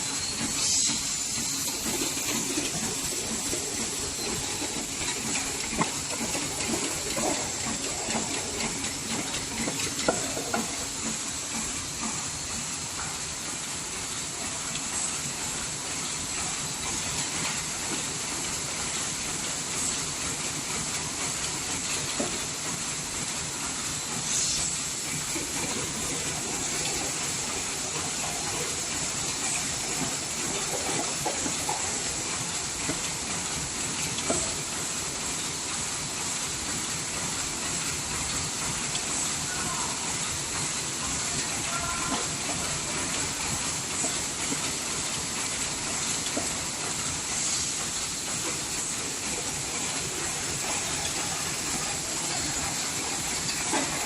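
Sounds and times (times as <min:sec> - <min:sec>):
machine running with hiss: 0:00.0 - 0:54.0.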